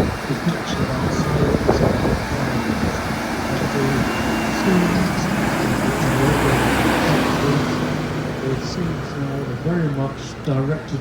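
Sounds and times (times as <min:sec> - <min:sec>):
farm machinery diesel engines: 0:00.0 - 0:11.0.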